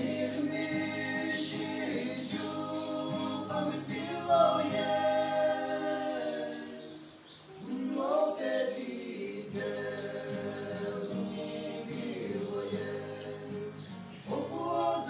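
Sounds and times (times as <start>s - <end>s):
young men singing gospel: 0.0s - 15.0s.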